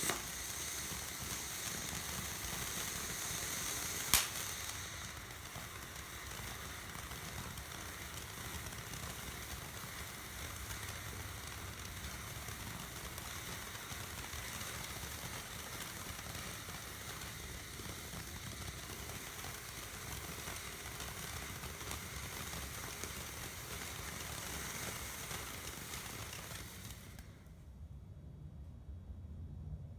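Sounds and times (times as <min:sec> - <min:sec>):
firework fountain hissing: 0:00.0 - 0:27.7.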